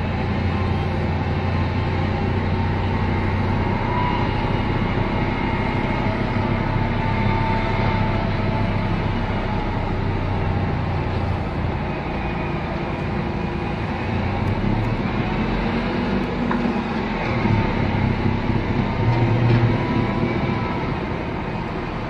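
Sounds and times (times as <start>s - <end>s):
snowblower and truck engine rumble: 0.0s - 22.0s.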